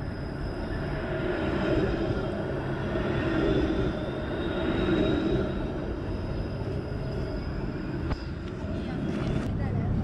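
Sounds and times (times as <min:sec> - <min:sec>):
faint high whine: 0:00.0 - 0:10.0
streetcar running on rails: 0:00.0 - 0:10.0.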